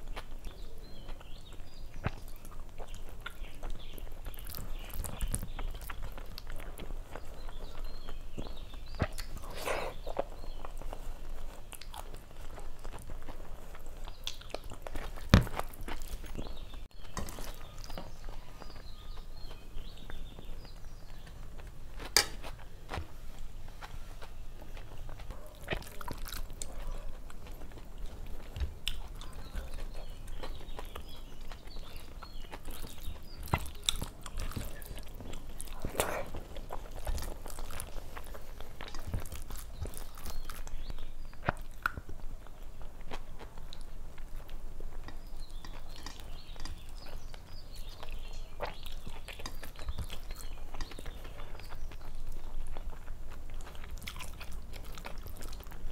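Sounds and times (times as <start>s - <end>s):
person chewing: 0.0s - 55.9s
mouth clicks and smacks: 0.1s - 19.2s, 23.8s - 55.9s.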